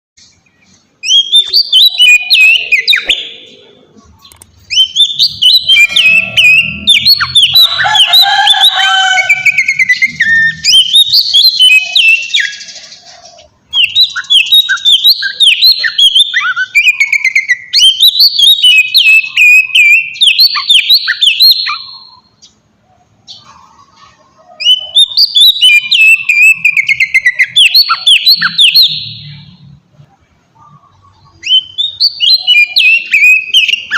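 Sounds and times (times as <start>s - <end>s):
bird singing whistled notes: 0.2s - 3.6s, 4.2s - 13.1s, 13.7s - 22.6s, 24.5s - 29.7s, 30.7s - 33.9s.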